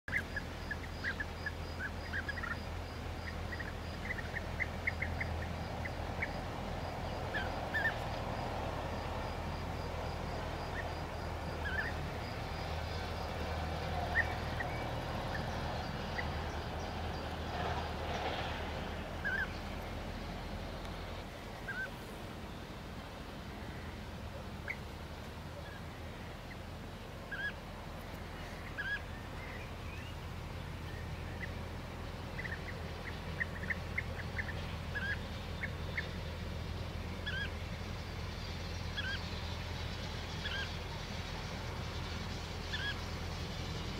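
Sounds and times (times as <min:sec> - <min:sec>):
bird calls: 0:00.1 - 0:08.5, 0:09.1 - 0:18.2, 0:19.0 - 0:22.7, 0:23.6 - 0:43.9
steady low rumble: 0:00.1 - 0:43.9.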